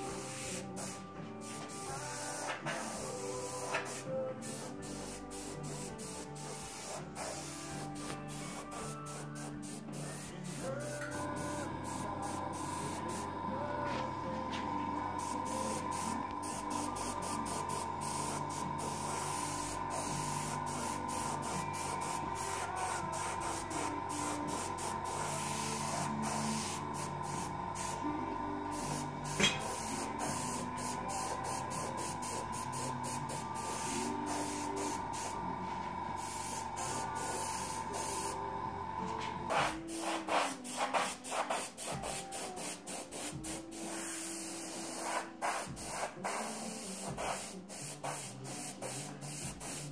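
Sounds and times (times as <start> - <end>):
airbrush spraying paint: 0.0 - 28.1, 28.7 - 38.5, 39.2 - 49.9.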